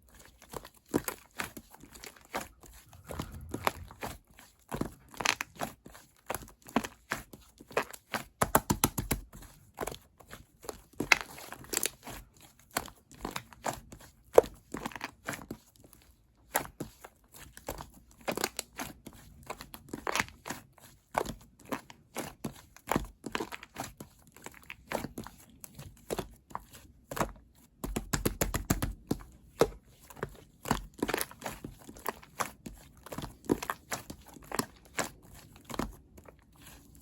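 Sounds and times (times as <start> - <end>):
hands kneading sticky slime: 5.4 - 37.0.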